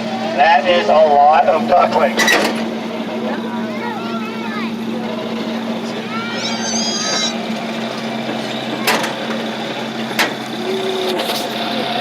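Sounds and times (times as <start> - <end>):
ride train humming: 0.0 - 12.0.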